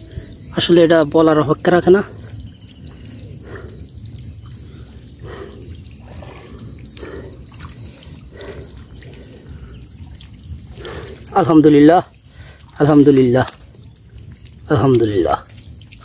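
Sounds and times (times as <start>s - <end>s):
insects chirping: 0.0s - 16.0s
steady low rumble: 0.0s - 16.0s
water trickling and dripping: 0.0s - 16.0s
small fish splashing in water: 1.5s - 16.0s.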